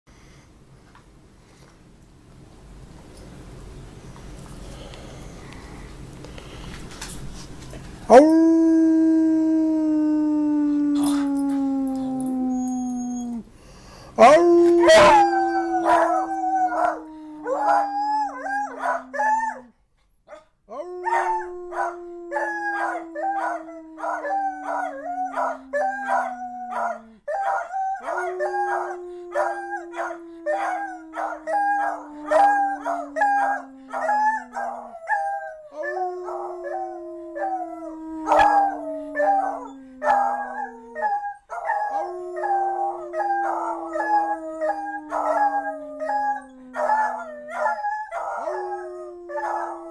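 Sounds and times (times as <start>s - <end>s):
dogs howling: 8.1s - 13.4s, 14.2s - 19.7s, 20.7s - 49.9s.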